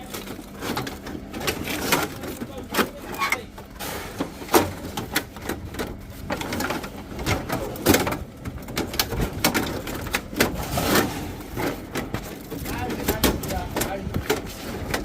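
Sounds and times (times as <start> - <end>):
scrap metal clattering: 0.0 - 15.0.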